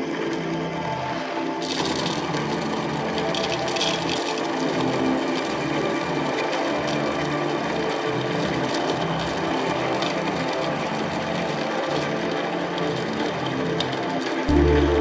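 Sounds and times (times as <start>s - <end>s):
coffee grinder grinding beans: 0.1s - 15.0s.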